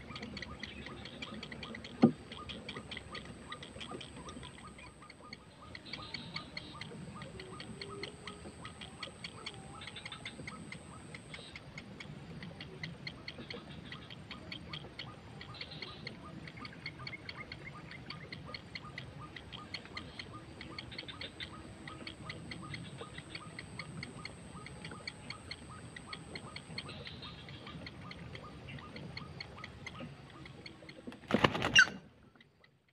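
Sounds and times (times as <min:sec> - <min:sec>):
heron chicks ticking calls: 0:00.0 - 0:32.9.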